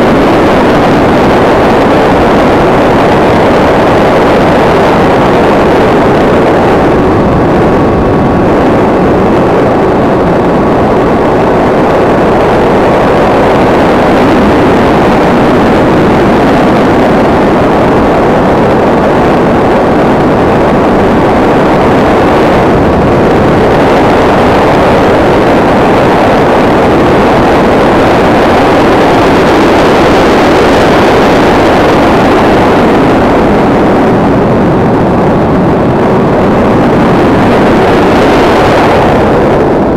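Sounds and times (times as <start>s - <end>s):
rush of airflow over microphone: 0.0s - 39.9s.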